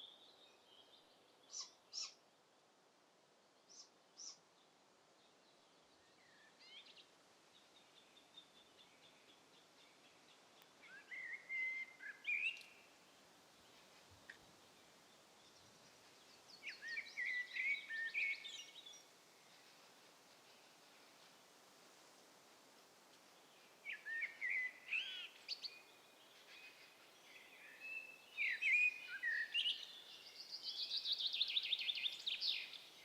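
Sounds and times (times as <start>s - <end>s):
songbirds singing: 0.0s - 2.2s, 3.6s - 21.4s, 23.0s - 33.0s
faint steady hiss: 0.0s - 33.0s.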